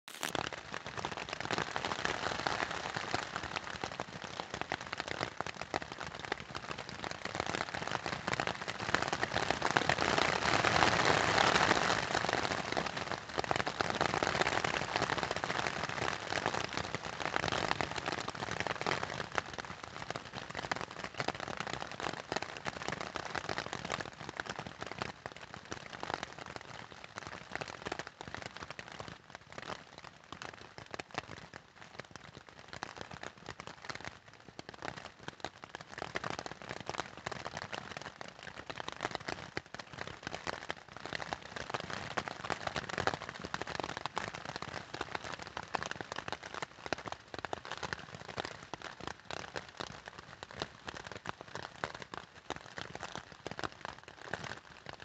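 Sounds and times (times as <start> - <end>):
rain falling on a tent: 0.0 - 55.0.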